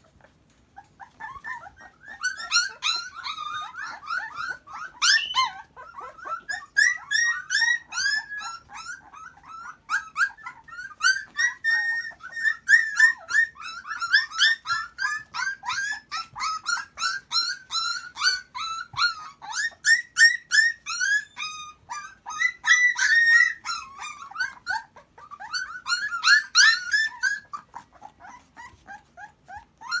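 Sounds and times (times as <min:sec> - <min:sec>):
puppies whining and yelping: 0:00.0 - 0:30.0.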